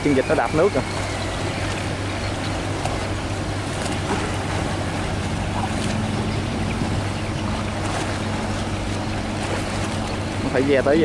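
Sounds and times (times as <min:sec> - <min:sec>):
propeller wash rushing: 0:00.0 - 0:11.0
ship engines droning: 0:00.0 - 0:11.0.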